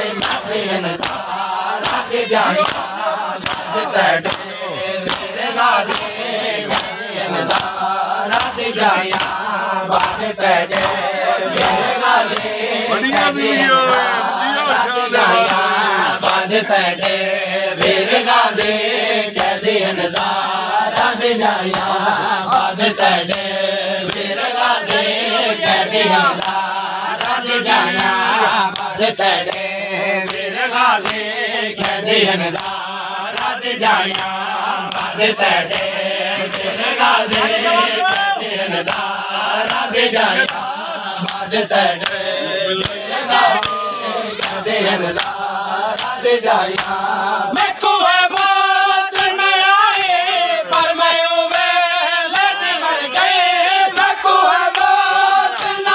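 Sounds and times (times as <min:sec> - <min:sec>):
hands slapping chests: 0:00.0 - 0:17.2, 0:17.8 - 0:55.9
men chanting in unison: 0:00.0 - 0:55.9.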